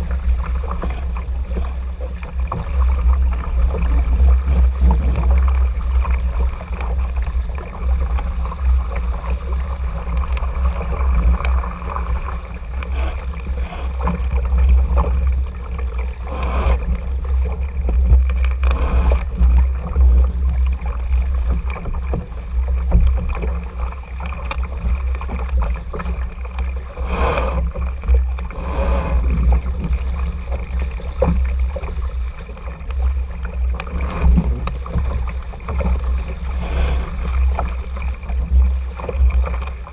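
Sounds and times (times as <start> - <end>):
water rushing along a hull: 0.0 - 39.9
water splashes: 0.0 - 39.9
wind rumbling on microphone: 0.0 - 39.9.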